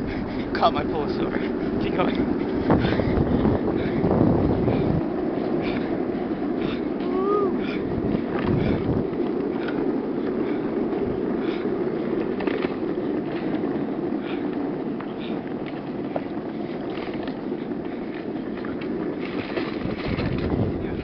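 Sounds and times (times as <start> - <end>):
chair casters rolling on asphalt: 0.0 - 21.0.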